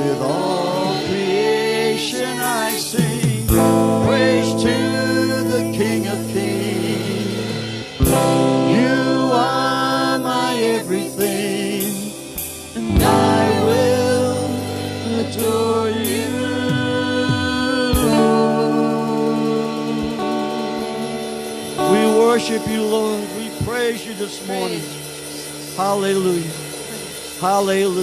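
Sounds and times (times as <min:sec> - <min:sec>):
band playing sustained chords: 0:00.0 - 0:28.0
voices singing worship music: 0:00.0 - 0:28.0.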